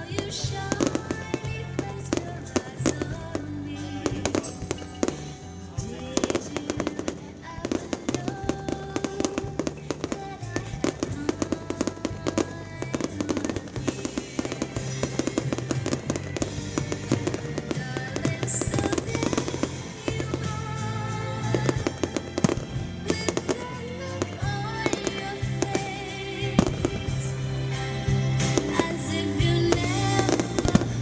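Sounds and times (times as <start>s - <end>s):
fireworks bangs and crackles: 0.0s - 31.0s
song playing: 0.0s - 31.0s.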